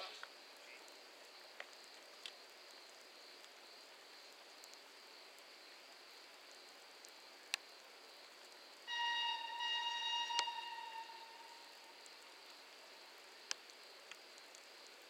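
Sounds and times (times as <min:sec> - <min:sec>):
steady high hiss: 0:00.0 - 0:15.0
faint clicks: 0:00.1 - 0:05.5, 0:06.4 - 0:08.6, 0:10.2 - 0:15.0.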